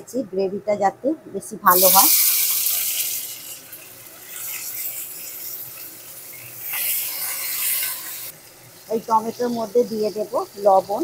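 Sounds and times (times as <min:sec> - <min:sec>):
tomatoes sizzling in hot oil: 0:01.7 - 0:11.0.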